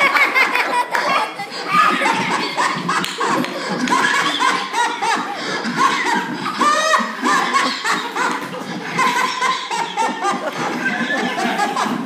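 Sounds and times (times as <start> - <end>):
children laughing: 0.0 - 12.0.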